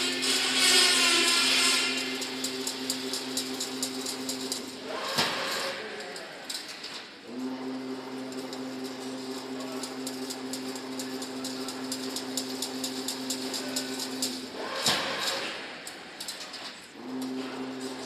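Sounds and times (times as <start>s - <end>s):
machine motor hum: 0.0s - 15.9s, 17.0s - 18.0s.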